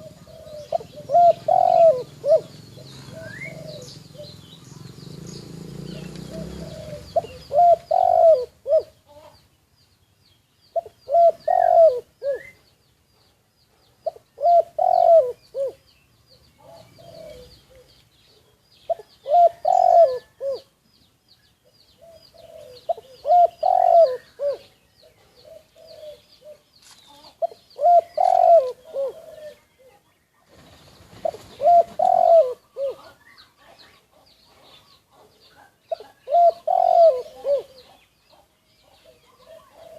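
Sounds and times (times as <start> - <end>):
dove cooing: 0.0 - 9.4, 10.7 - 12.7, 14.0 - 20.8, 21.7 - 30.1, 31.1 - 39.9.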